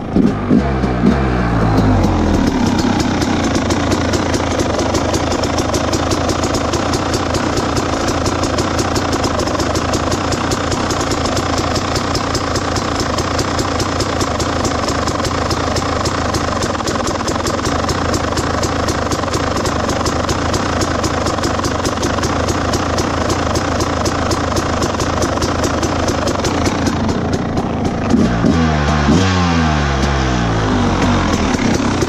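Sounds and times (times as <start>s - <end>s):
two-stroke engine idling: 0.0s - 32.0s.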